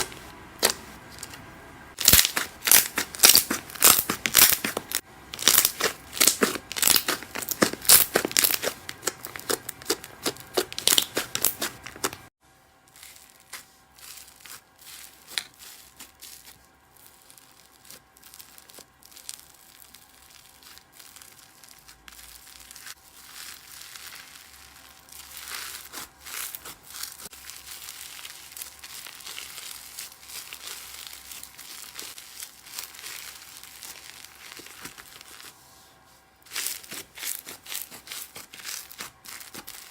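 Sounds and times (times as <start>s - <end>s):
slime crackling and crunching: 1.9s - 35.6s, 36.4s - 39.9s
slime crinkling and tearing: 2.0s - 35.6s, 36.4s - 39.9s.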